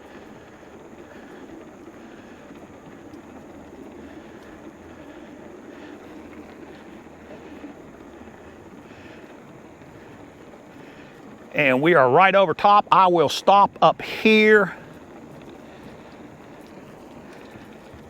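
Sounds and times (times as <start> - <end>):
bike tyres rolling on wet trail: 0.0 - 18.0.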